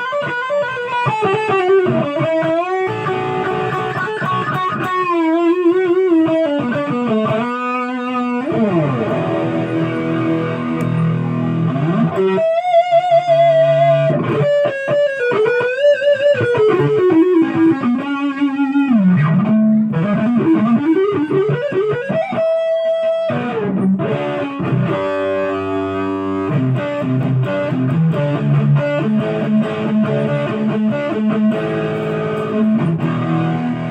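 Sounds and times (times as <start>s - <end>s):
electric guitar lead melody: 0.0s - 33.9s.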